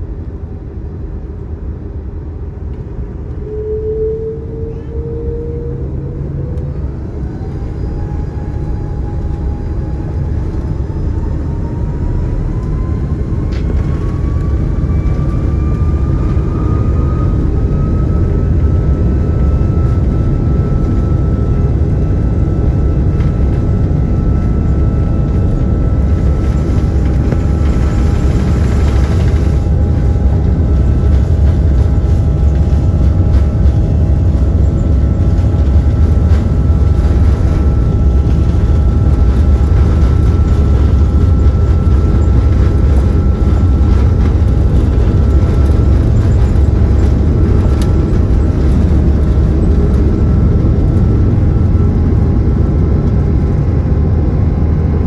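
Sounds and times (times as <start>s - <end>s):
faint engine whine: 0.0s - 55.0s
jet engines rumbling in cabin: 0.0s - 55.0s.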